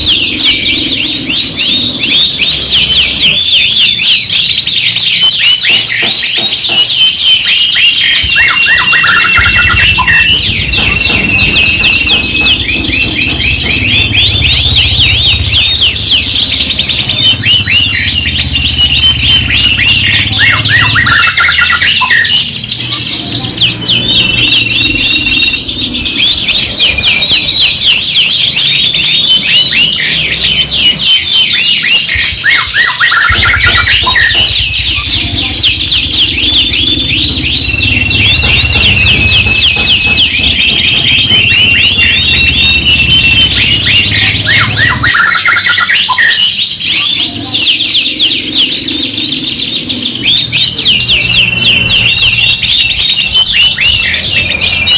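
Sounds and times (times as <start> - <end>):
canaries singing: 0.0 - 54.9.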